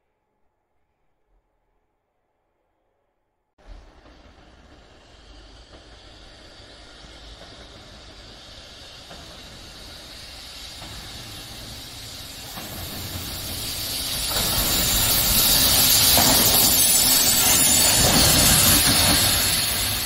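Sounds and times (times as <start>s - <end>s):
electric locomotive passing: 3.6s - 20.0s.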